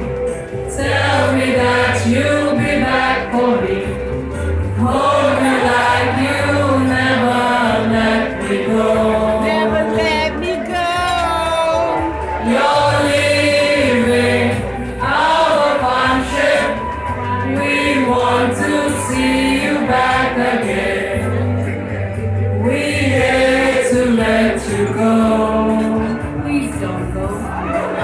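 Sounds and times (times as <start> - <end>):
group of people singing: 0.0 - 28.0
music with steady bass: 0.0 - 28.0.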